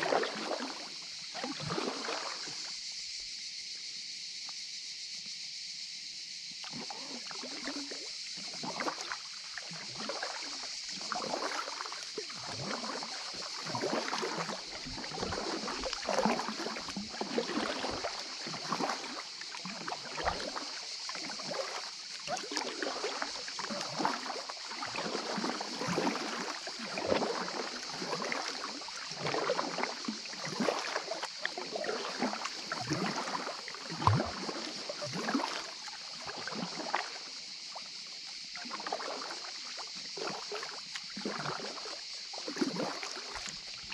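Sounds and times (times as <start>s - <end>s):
paddle splashing in water: 0.0s - 3.5s, 6.6s - 43.9s.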